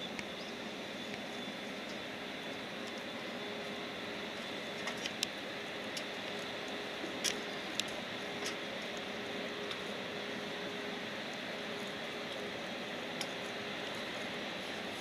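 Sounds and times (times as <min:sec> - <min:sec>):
jet engines hissing with whine: 0:00.0 - 0:15.0.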